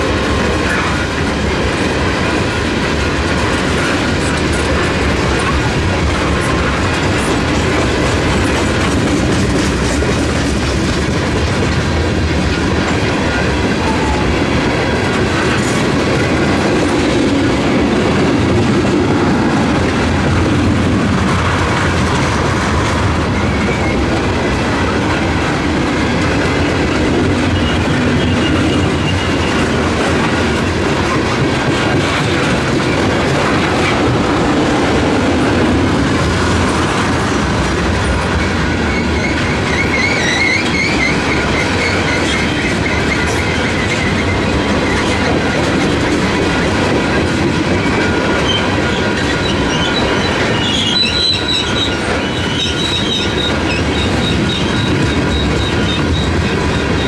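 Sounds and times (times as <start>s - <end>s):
train wheels clacking on rails: 0.0s - 57.0s.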